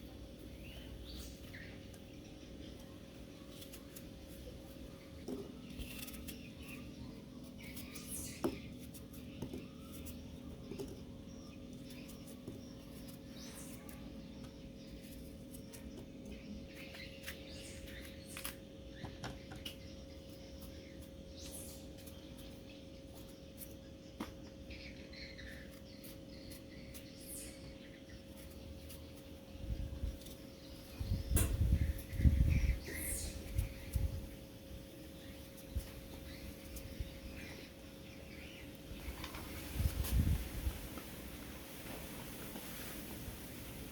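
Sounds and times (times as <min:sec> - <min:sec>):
steady electrical hum: 0:00.0 - 0:43.9.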